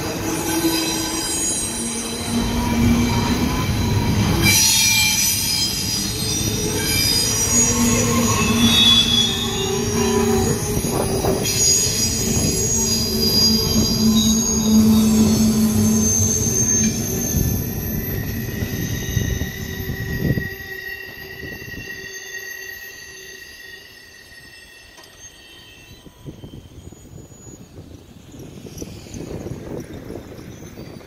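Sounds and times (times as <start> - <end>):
rumble of train cars: 0.0 - 31.0
train wheels squealing: 0.0 - 31.0.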